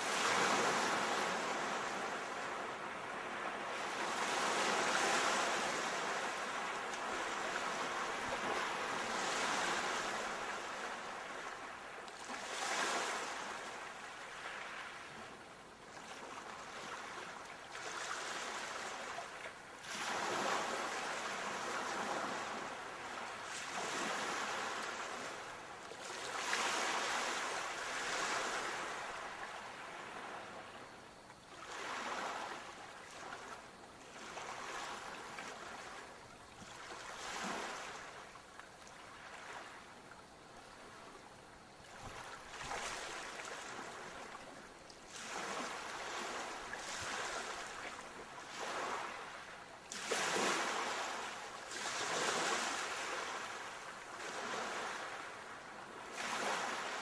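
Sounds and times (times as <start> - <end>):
sea waves breaking as surf: 0.0 - 30.9, 31.5 - 40.0, 40.6 - 57.0.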